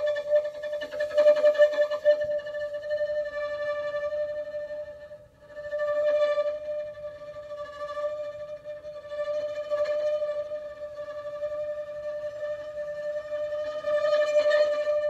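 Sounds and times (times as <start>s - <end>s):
violin sustained bowed note: 0.0s - 15.0s.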